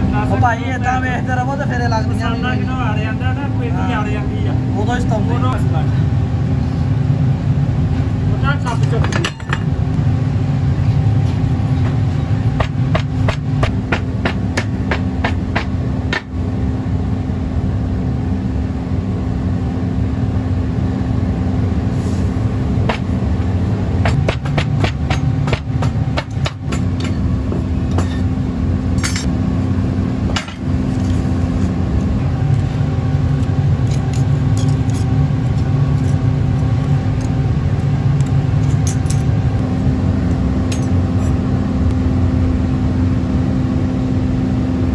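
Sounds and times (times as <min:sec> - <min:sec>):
low mechanical hum: 0:00.0 - 0:44.9.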